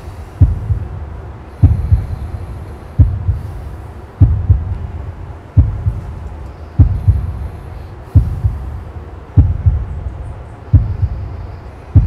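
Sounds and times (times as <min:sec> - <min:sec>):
heartbeat thumps: 0:00.0 - 0:12.0.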